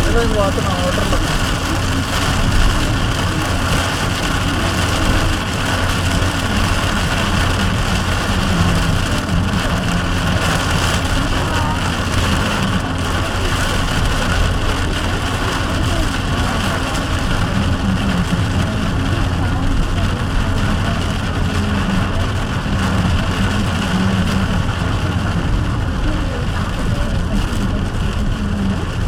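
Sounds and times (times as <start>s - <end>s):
low engine rumble: 0.0s - 29.0s
rain and tyre spray hiss: 0.0s - 29.0s.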